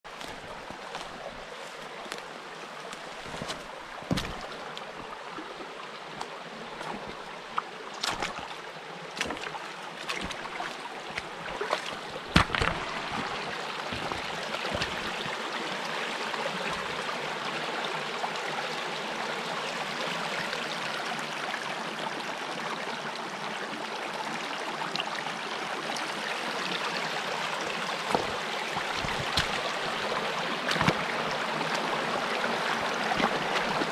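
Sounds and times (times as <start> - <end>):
stream running over rocks: 0.1 - 33.9.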